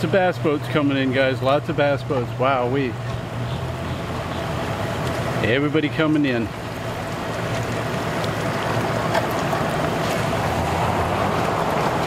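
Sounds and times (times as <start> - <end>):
outboard motors idling: 0.0 - 12.0
water wash: 0.0 - 12.0.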